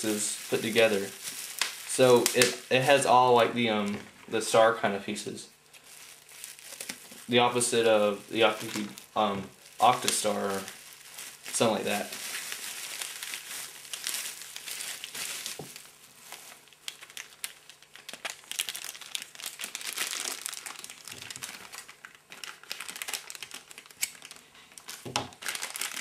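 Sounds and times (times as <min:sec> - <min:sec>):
plastic packaging crinkling: 0:00.0 - 0:04.4, 0:05.5 - 0:26.0.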